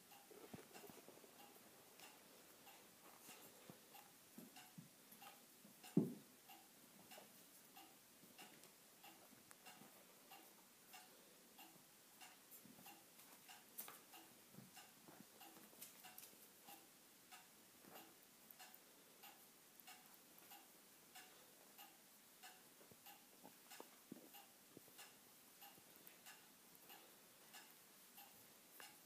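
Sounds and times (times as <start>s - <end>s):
faint steady ticking: 0.0s - 29.0s.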